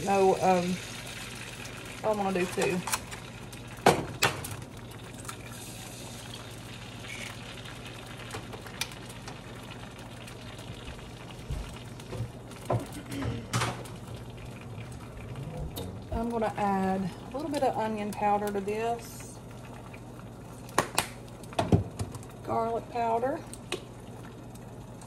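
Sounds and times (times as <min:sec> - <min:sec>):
eggs sizzling in a skillet: 0:00.0 - 0:15.4, 0:16.1 - 0:25.0.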